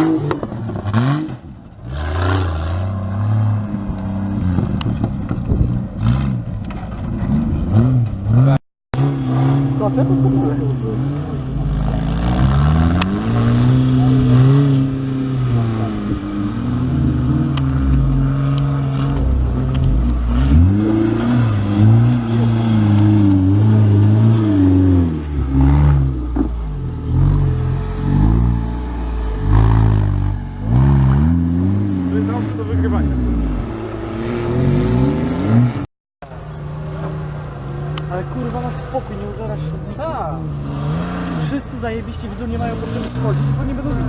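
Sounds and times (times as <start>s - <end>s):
engine revving hard: 0.0s - 4.5s, 7.3s - 35.9s, 36.5s - 44.0s.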